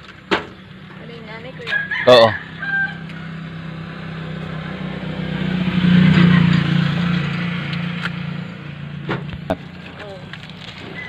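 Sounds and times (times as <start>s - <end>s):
vehicle engine passing by: 0.6s - 11.0s.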